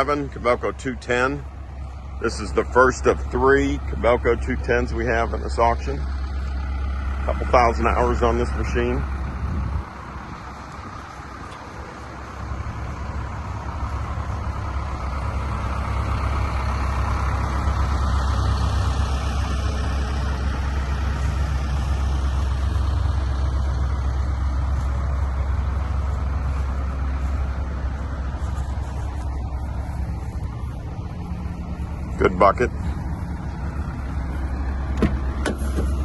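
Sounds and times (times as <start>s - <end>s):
excavator diesel engine rumbling: 0.0s - 36.0s.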